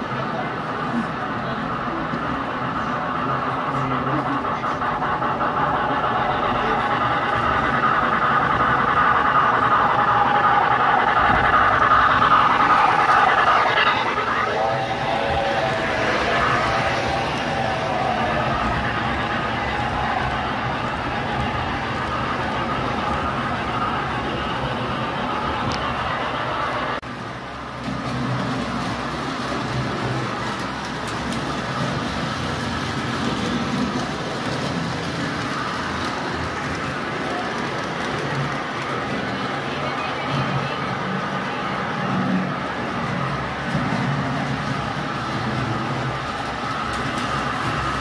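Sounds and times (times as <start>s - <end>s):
model trains rolling on metal track: 0.0s - 48.0s.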